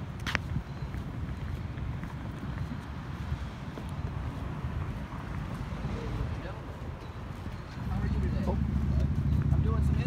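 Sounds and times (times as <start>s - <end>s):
footsteps on concrete: 0.0s - 10.0s
wind rumble on microphone: 0.0s - 10.0s.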